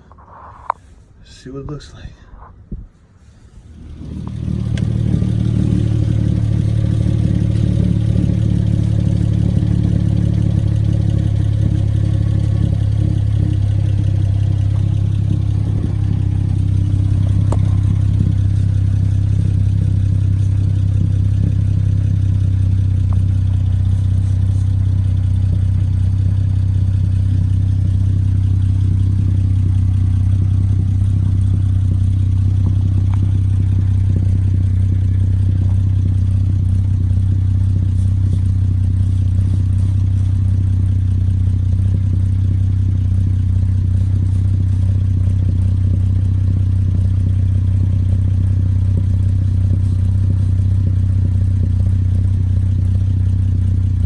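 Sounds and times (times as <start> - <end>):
car engine starting and idling: 3.1 - 54.0.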